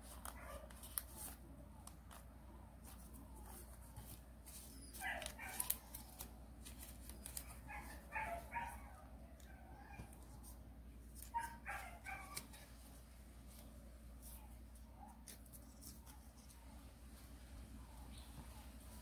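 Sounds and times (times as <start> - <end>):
paper being folded: 0.0 - 17.4.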